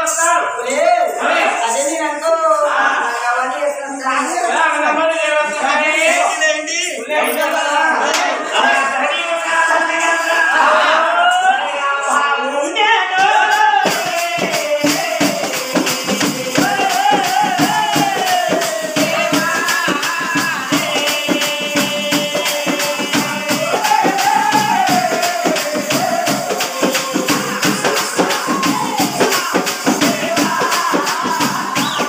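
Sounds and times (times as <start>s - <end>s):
jingling percussion beat: 0.0s - 32.0s
person singing: 5.9s - 32.0s.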